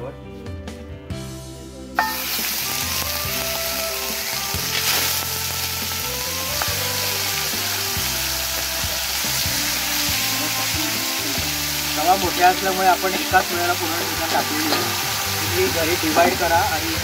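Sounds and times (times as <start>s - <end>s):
chicken sizzling on hot pan: 2.0s - 17.0s.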